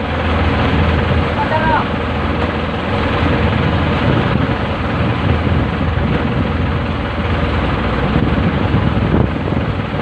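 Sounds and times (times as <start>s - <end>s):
boat engine droning: 0.0s - 10.0s
constant rushing noise: 0.0s - 10.0s.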